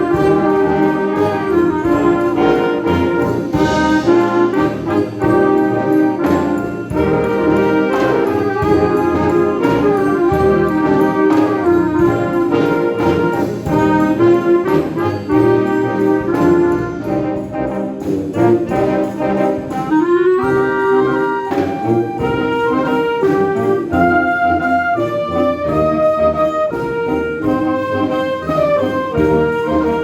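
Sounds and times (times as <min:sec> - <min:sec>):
wind band playing: 0:00.0 - 0:30.0.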